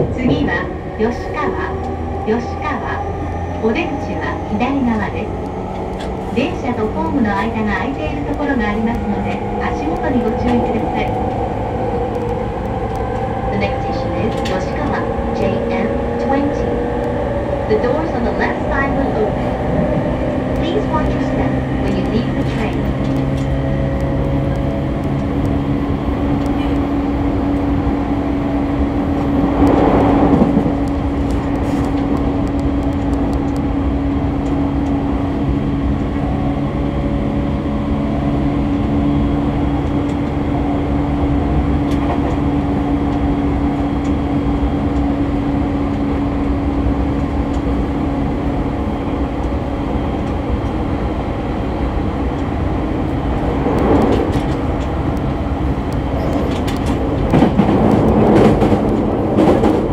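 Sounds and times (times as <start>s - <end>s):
steady train motor hum: 0.0s - 59.9s
wheel-on-rail rumble: 0.0s - 59.9s.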